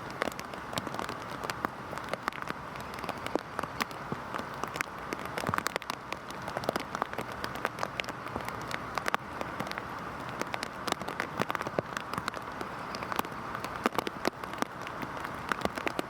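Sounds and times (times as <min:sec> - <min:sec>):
heavy rain: 0:00.0 - 0:16.0
raindrops pattering on hard surface: 0:00.0 - 0:16.0.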